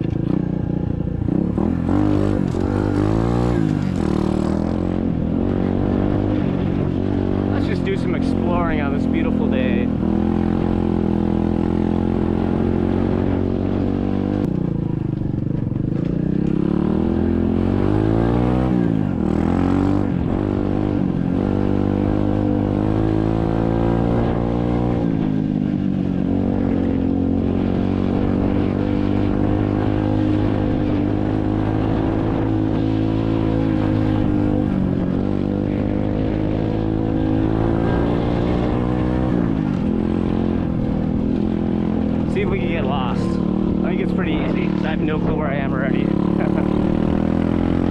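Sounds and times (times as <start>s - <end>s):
dirt bike engine revving: 0.0s - 14.5s, 15.9s - 47.9s.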